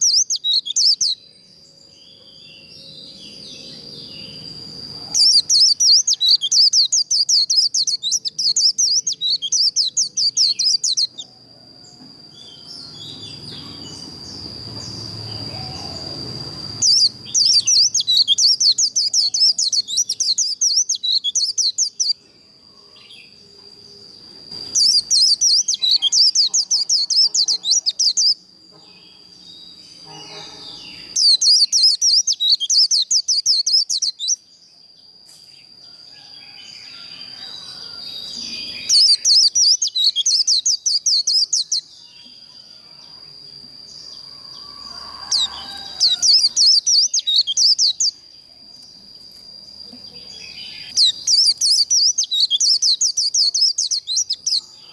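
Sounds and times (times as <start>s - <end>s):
bird twittering song: 0.0s - 22.3s, 22.9s - 35.7s, 36.4s - 54.9s.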